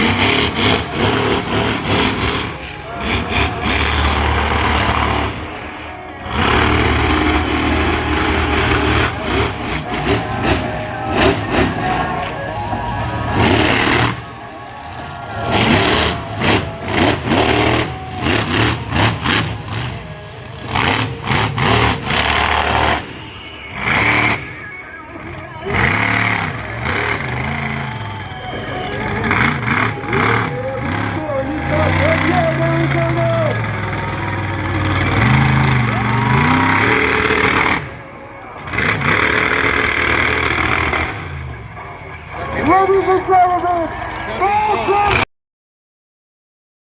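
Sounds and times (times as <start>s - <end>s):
monster truck engine revving: 0.0s - 45.3s.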